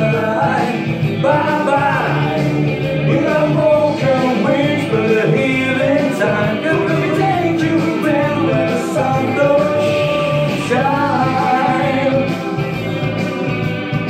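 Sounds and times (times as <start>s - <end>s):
man singing into microphone: 0.0s - 12.5s
rock backing track with guitar: 0.0s - 14.0s.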